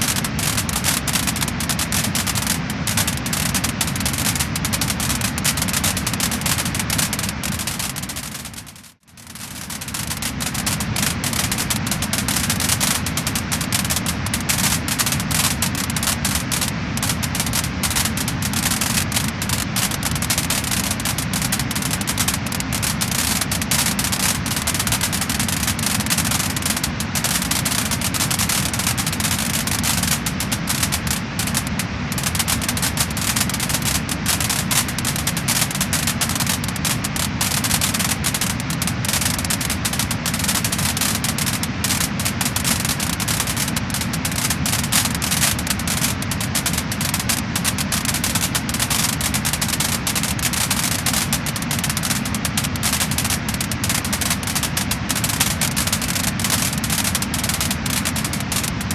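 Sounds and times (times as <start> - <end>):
flames hissing and rumbling: 0.0 - 58.9
wood fire crackling and popping: 0.0 - 58.9.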